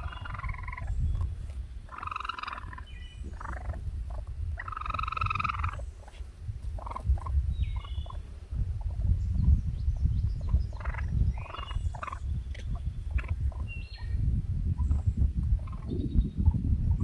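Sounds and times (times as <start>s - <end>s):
raccoon kits chittering: 0.0s - 14.2s, 14.8s - 16.6s.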